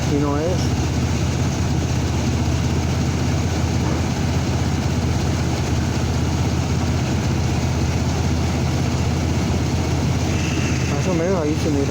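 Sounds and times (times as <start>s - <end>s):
pickup engine idling: 0.0s - 11.9s.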